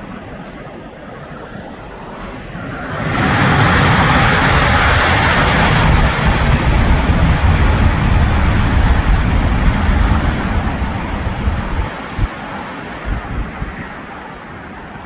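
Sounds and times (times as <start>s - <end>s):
fighter jet taking off: 0.0s - 15.0s.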